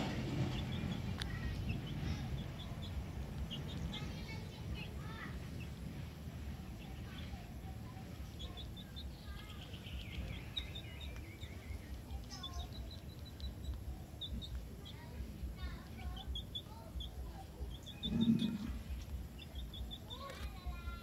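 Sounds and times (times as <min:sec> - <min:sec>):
low steady rumble: 0:00.0 - 0:21.0
small birds chirping: 0:00.0 - 0:21.0.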